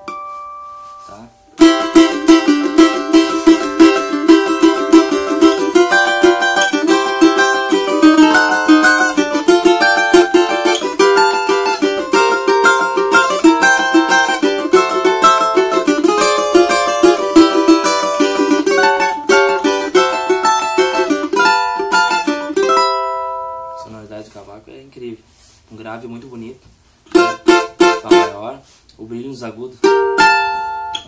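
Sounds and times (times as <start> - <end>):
small steel-string guitar strummed: 0.0 - 23.9, 29.8 - 31.0.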